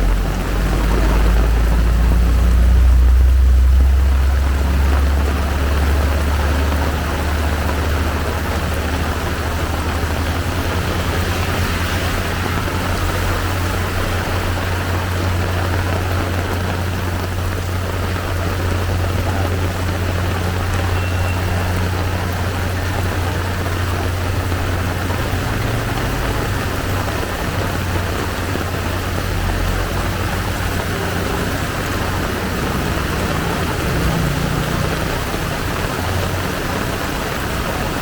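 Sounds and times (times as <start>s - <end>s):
heavy downpour: 0.0s - 38.0s.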